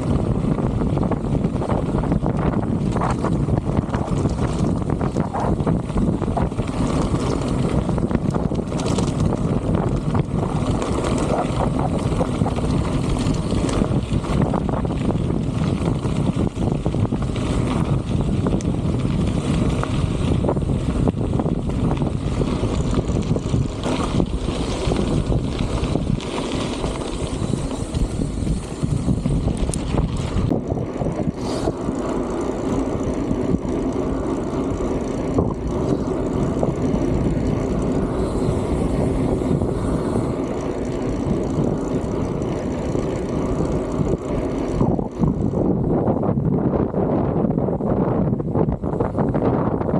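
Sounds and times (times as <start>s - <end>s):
strong wind on microphone: 0.0s - 49.9s.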